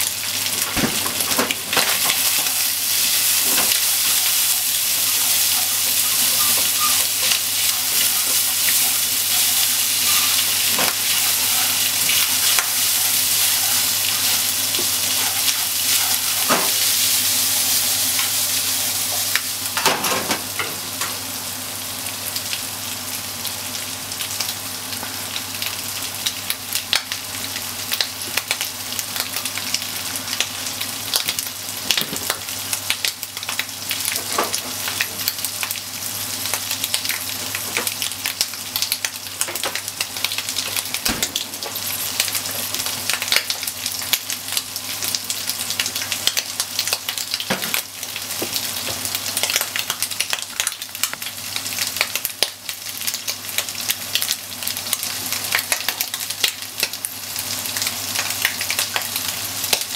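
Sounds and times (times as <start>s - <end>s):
bacon sizzling in a frying pan: 0.0s - 59.9s.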